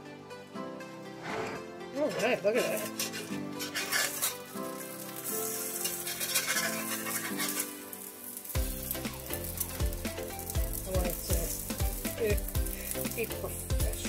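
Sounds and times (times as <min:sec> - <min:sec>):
background music: 0:00.0 - 0:14.0
metal spatula scraping: 0:01.2 - 0:14.0
omelette sizzling in grease: 0:02.6 - 0:14.0.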